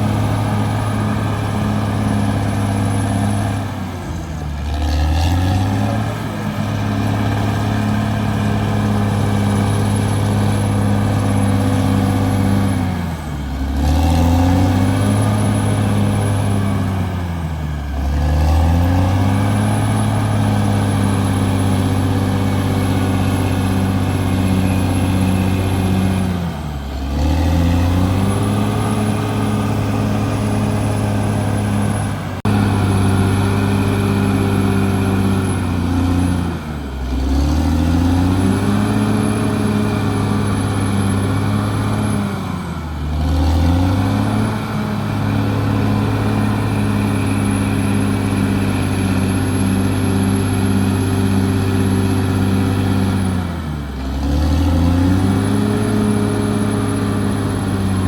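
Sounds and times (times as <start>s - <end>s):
bulldozer diesel engine lugging: 0.0s - 58.0s.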